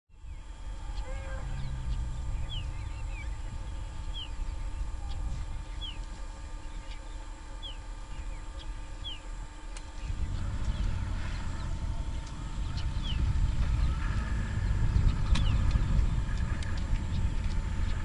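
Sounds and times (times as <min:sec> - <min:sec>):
bird chirping: 0:00.1 - 0:09.3, 0:09.9 - 0:18.0
steady low rumble: 0:00.1 - 0:18.0.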